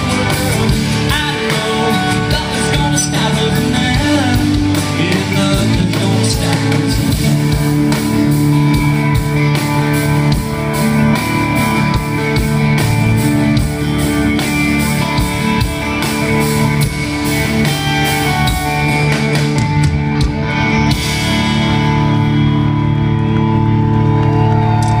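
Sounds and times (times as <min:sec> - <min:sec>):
country-rock band playing: 0:00.0 - 0:25.0.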